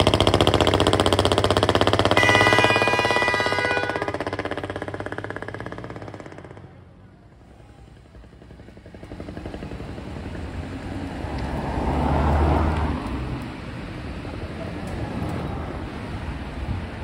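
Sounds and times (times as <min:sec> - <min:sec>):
road vehicles passing: 0:00.0 - 0:17.0.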